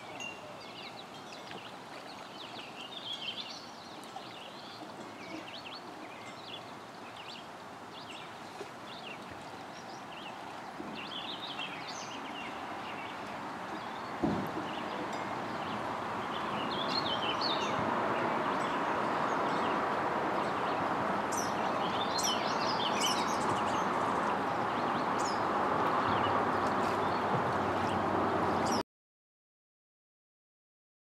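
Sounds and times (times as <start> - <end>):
small birds chirping: 0.0 - 19.8, 20.4 - 28.0
outdoor background hiss: 0.0 - 28.8.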